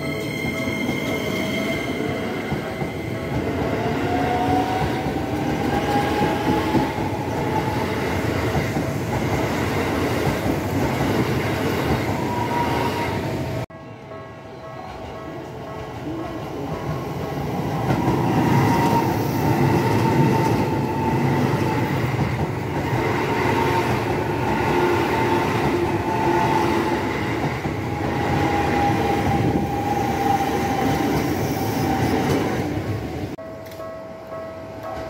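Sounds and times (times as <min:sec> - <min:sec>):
train rumble and wheel clatter: 0:00.0 - 0:35.0.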